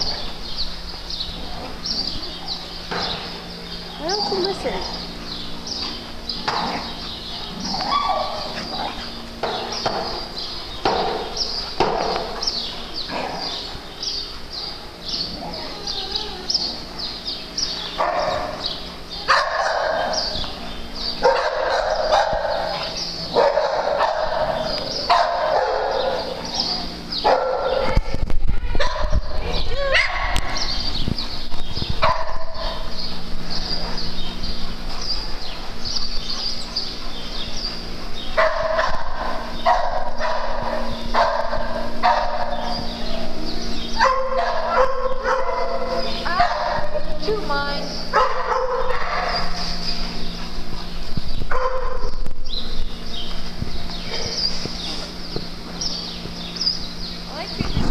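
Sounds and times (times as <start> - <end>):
dogs barking and yipping: 0.0 - 57.9.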